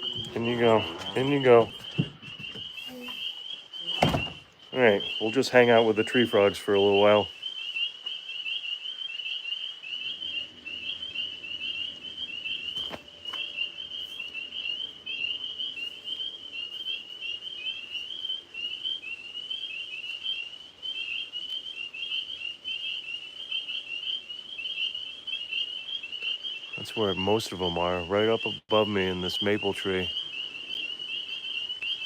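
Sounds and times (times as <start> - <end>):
tree frogs chirping: 0.0 - 32.0.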